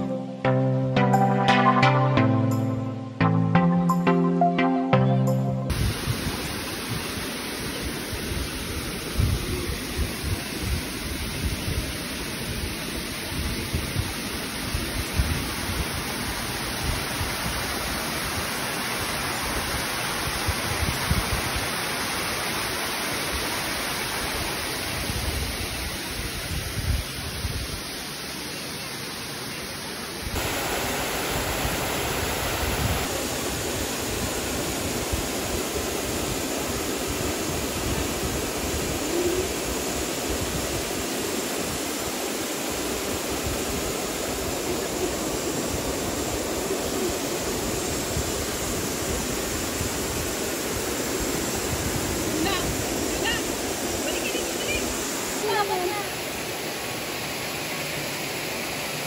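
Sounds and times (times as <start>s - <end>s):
waterfall rushing: 5.7s - 59.0s.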